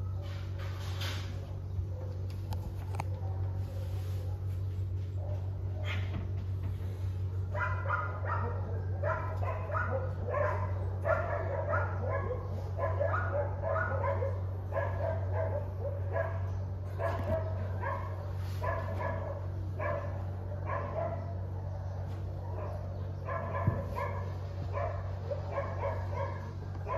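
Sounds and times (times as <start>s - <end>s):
dogs barking: 1.7s - 6.2s, 7.2s - 26.9s.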